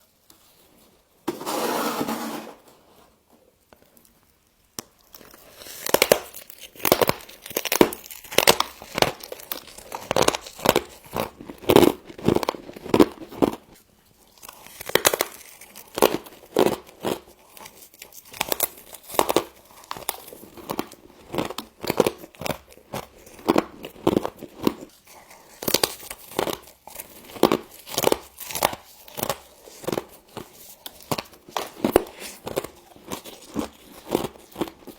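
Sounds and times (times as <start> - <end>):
crunching and chewing frost: 3.4 - 34.9.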